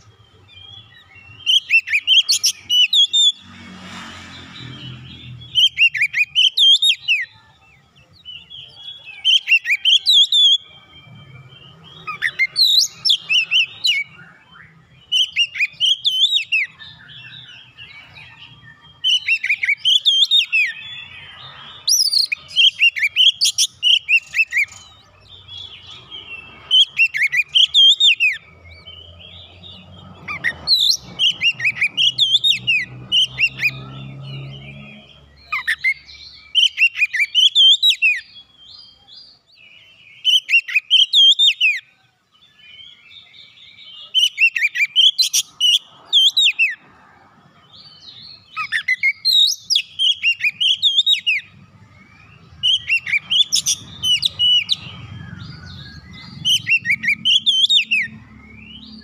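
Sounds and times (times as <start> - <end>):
bird singing whistles and chirps: 0.0 - 3.5, 4.3 - 46.8, 47.6 - 59.0.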